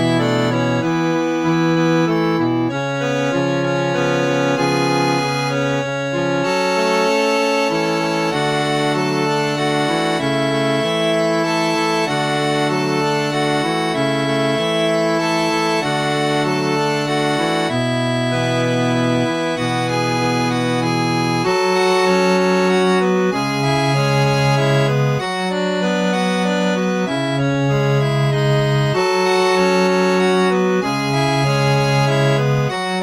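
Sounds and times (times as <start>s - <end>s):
reed organ playing slow chords: 0.0s - 33.0s.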